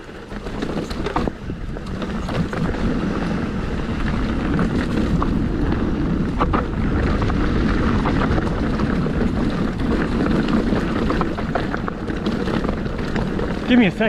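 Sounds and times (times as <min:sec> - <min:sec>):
bike rattling: 0:00.0 - 0:14.0
tyres rolling on rocky dirt: 0:00.0 - 0:14.0
wind buffeting microphone: 0:00.0 - 0:14.0.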